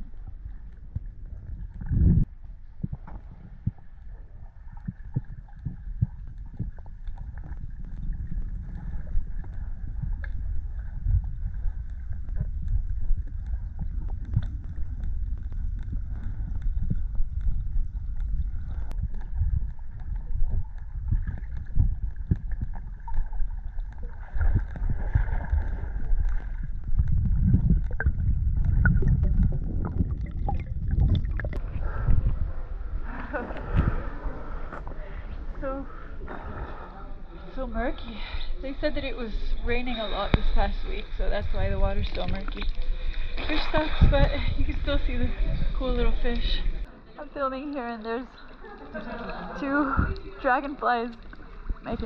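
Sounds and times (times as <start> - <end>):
muffled underwater rumble: 0.0 - 52.0.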